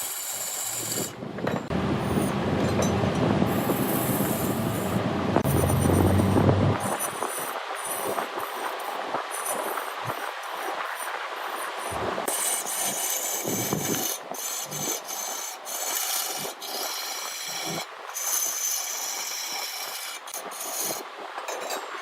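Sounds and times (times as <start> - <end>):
lathe tool scraping wood: 0.0 - 1.2, 3.5 - 21.0.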